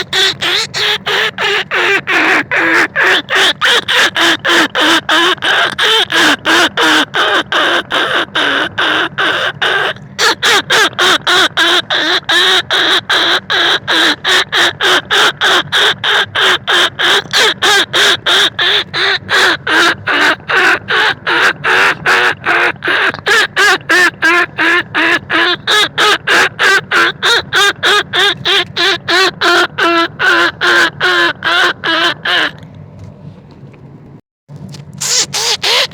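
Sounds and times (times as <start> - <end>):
squeaky rat calls: 0.0 - 32.6, 35.0 - 35.9.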